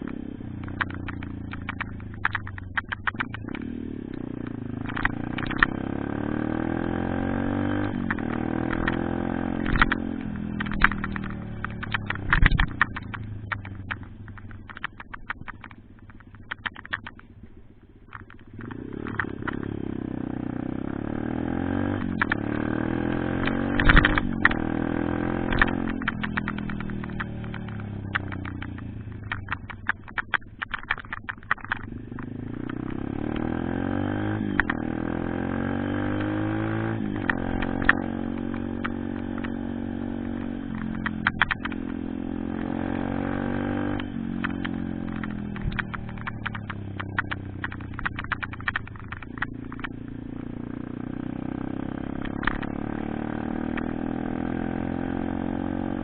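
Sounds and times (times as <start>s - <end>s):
motorbike engine revving: 0.0s - 56.0s
sharp clicks and knocks: 0.0s - 56.0s.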